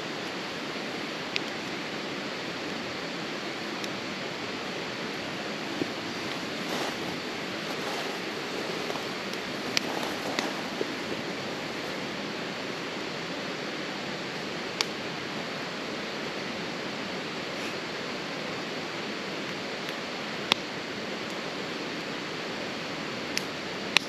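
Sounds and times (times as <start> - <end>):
campfire rushing hiss: 0.0 - 24.0.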